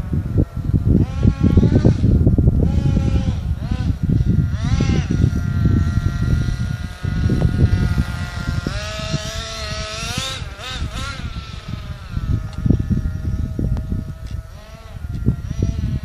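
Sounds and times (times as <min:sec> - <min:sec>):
loud low rumbling: 0:00.0 - 0:16.0
toy truck motor whining: 0:00.4 - 0:16.0.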